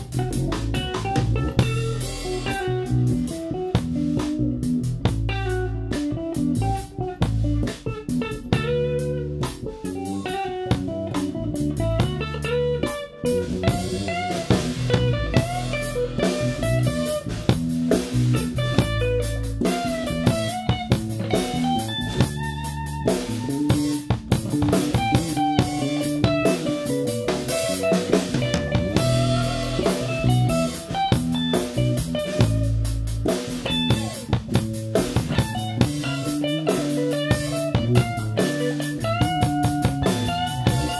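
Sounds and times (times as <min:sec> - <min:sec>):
bass guitar: 0:00.0 - 0:40.9
bluesy electric guitar: 0:00.0 - 0:40.9
drum kit with cymbals: 0:00.0 - 0:40.9.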